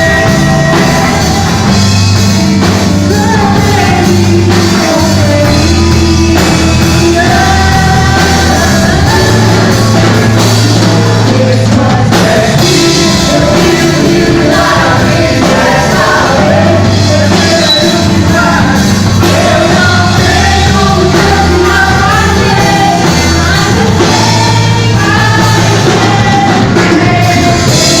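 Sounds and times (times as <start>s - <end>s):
person singing: 0.0s - 28.0s
rock band playing: 0.0s - 28.0s.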